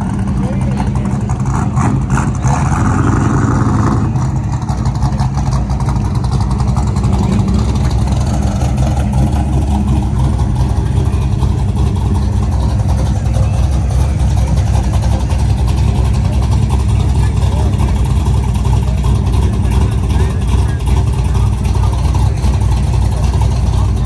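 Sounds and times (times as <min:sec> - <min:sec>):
car engine rumbling at idle: 0:00.0 - 0:24.0.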